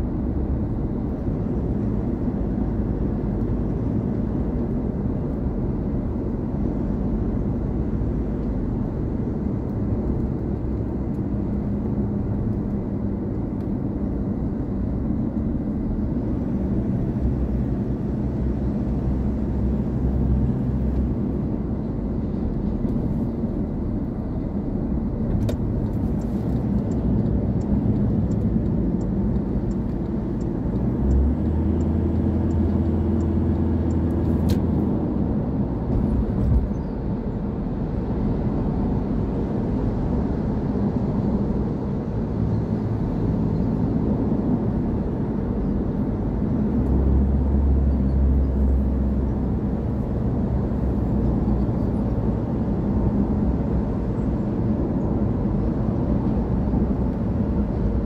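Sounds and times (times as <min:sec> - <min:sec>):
car road noise rumble: 0:00.0 - 0:58.0.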